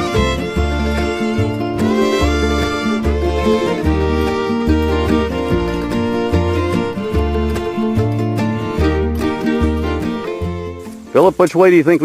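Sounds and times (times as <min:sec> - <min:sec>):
bluegrass band music: 0:00.0 - 0:12.0
fiddle: 0:00.0 - 0:12.0
walking bass line: 0:00.0 - 0:12.0.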